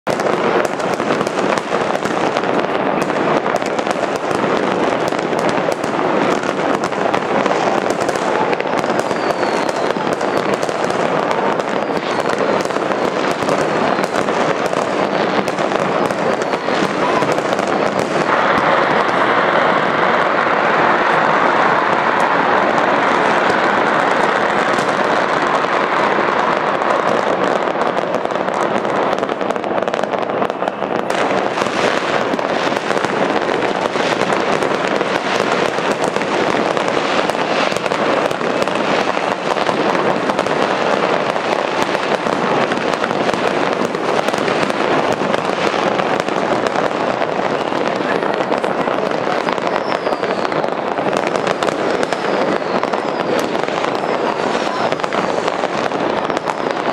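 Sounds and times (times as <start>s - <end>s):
fireworks crackling and popping: 0.0s - 56.9s.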